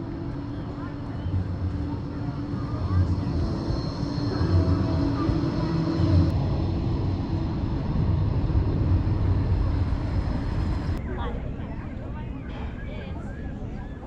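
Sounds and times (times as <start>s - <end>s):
faint whining tones: 0.0s - 14.0s
low mechanical rumble: 0.0s - 14.0s.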